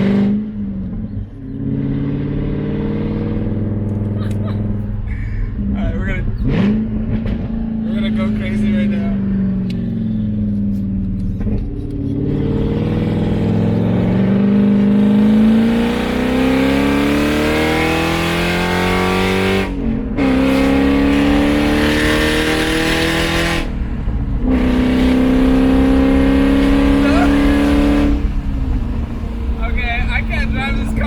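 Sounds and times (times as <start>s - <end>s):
loud car exhaust accelerating: 0.0s - 31.0s.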